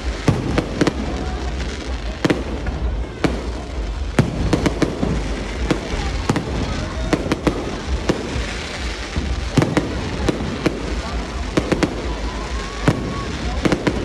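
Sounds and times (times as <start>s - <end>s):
low rumble and crackle: 0.0s - 14.0s.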